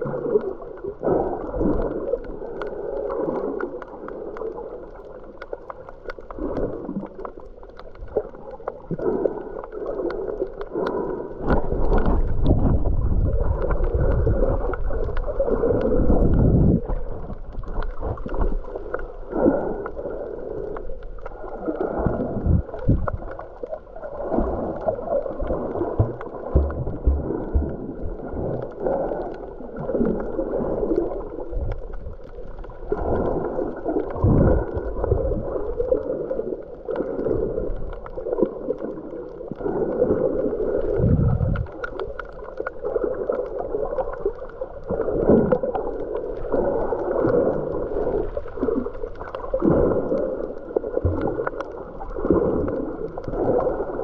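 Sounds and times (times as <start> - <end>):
muffled water sloshing underwater: 0.0 - 54.0.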